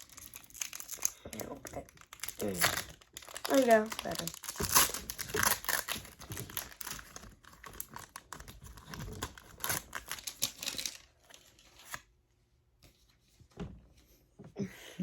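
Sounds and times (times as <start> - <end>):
foil wrapper tearing and crinkling: 0.0 - 12.0.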